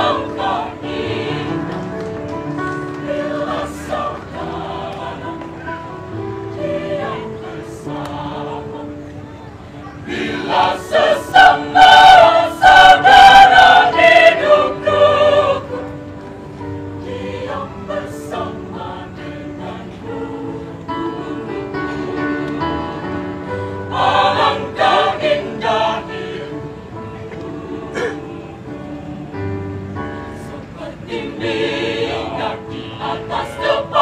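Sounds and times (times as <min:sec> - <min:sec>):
choir singing sacred song: 0:00.0 - 0:01.9, 0:02.6 - 0:09.2, 0:10.0 - 0:34.0.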